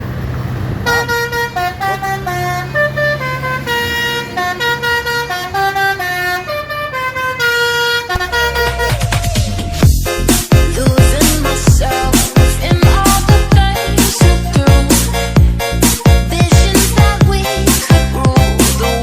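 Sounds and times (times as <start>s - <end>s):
low engine hum: 0.0s - 19.0s
bus horn playing a tune: 0.8s - 10.8s, 11.4s - 19.0s.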